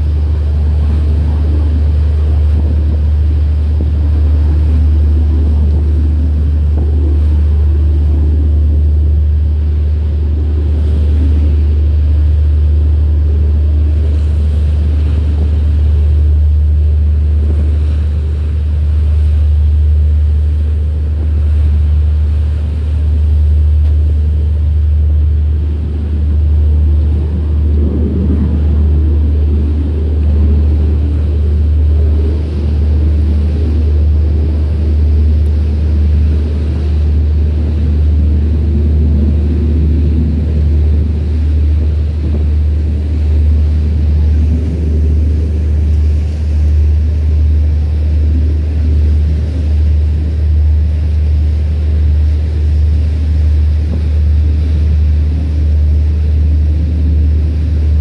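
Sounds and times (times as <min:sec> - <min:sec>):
motorboat engine rumble: 0:00.0 - 0:58.0
water noise: 0:00.0 - 0:58.0
wind noise: 0:00.0 - 0:58.0.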